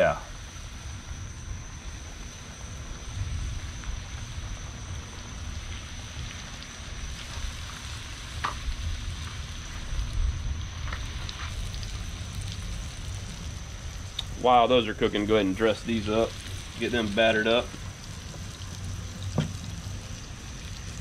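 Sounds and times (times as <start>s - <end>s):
oil sizzling with pops: 0.0s - 21.0s.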